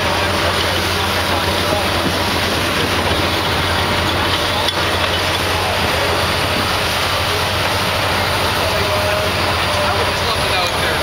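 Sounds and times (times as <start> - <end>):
excavator engine hum: 0.0 - 11.0.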